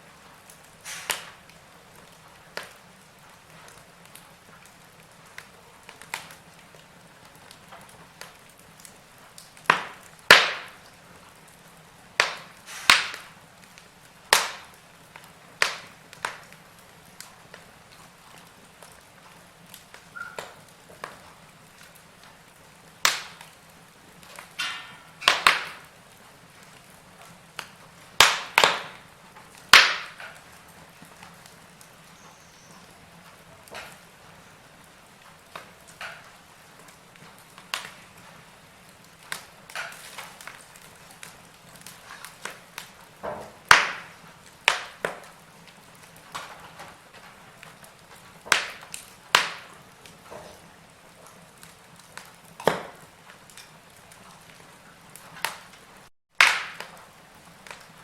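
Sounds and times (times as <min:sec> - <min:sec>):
burning logs popping: 0:00.0 - 0:58.0
low steady hiss: 0:00.0 - 0:58.0
wood fire crackling: 0:00.0 - 0:58.0.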